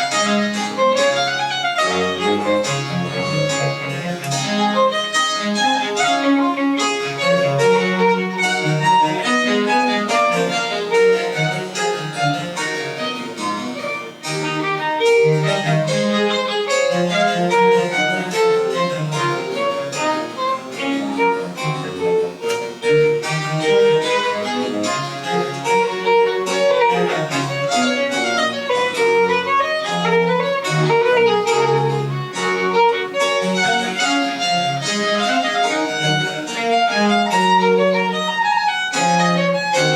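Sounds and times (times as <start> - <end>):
bowed-string bass line: 0.0 - 39.9
violin melody: 0.0 - 39.9.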